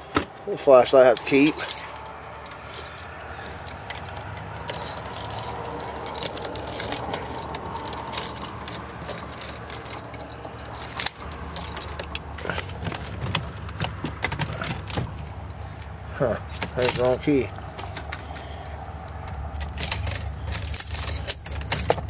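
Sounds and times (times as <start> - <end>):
keys jangling and clicking: 1.2 - 22.0.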